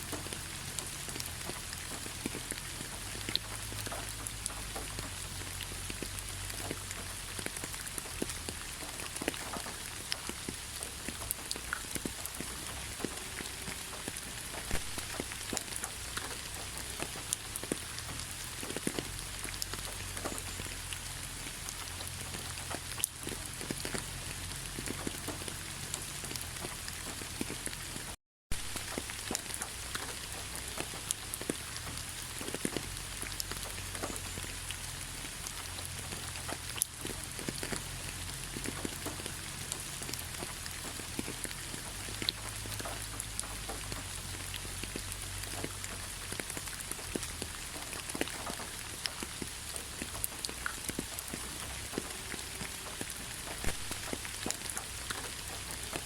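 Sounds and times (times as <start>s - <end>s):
rain falling: 0.0s - 56.0s
raindrops ticking: 0.0s - 56.0s.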